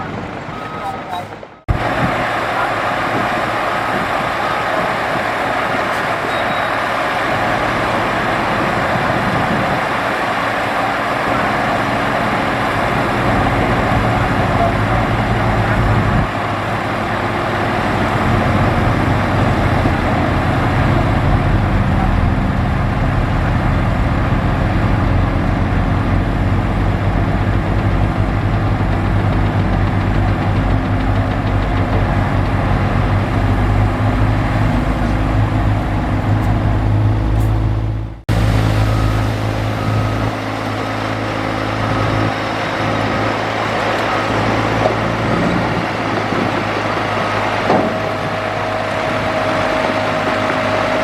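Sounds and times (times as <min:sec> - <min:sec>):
diesel earthmoving machinery running: 0:00.0 - 0:51.0.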